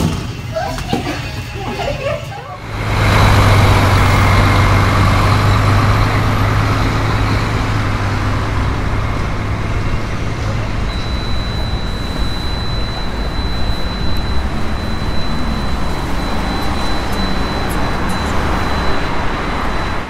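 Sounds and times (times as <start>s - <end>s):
street traffic: 0.0s - 20.0s
thin high whine: 0.1s - 20.0s
vehicle engine droning: 2.6s - 20.0s.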